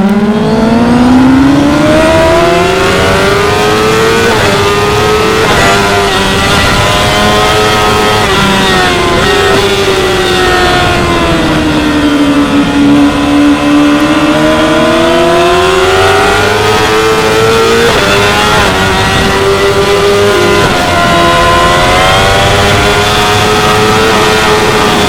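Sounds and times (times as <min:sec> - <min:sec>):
gear upshifts: 0:00.0 - 0:25.0
motorcycle engine revving: 0:00.0 - 0:25.0.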